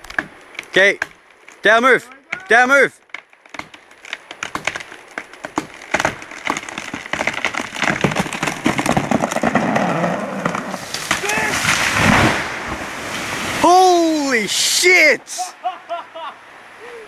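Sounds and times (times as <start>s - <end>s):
tree trunk cracking and splintering: 0.0s - 1.7s, 2.3s - 14.4s.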